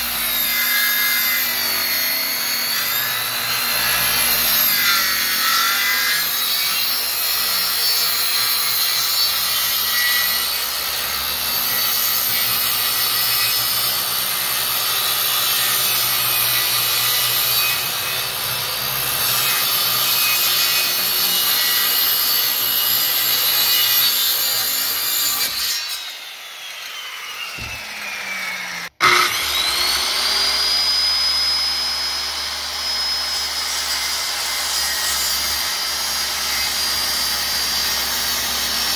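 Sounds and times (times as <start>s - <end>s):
circular saw cutting plywood: 0.0s - 38.9s.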